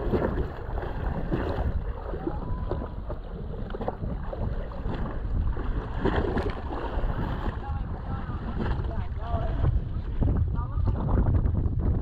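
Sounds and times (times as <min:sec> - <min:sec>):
water lapping: 0:00.0 - 0:11.6
wind buffeting microphone: 0:00.0 - 0:12.0.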